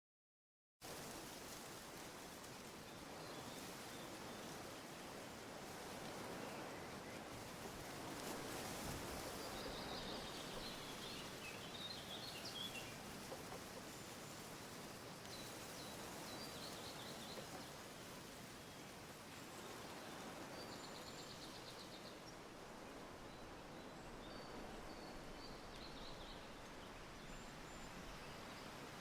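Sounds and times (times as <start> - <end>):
faint background hiss: 0.8 - 29.0.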